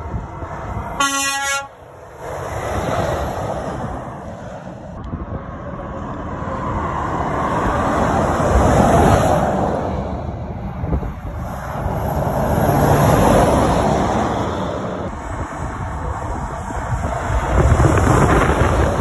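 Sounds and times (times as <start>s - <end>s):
lorries driving past: 0.0s - 19.0s.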